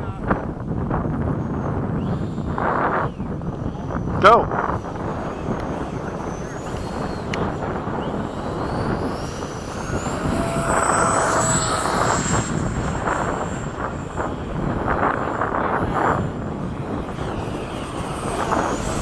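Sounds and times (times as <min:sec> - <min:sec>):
model jet whine passing: 0:00.0 - 0:19.0
wind on microphone: 0:00.0 - 0:19.0.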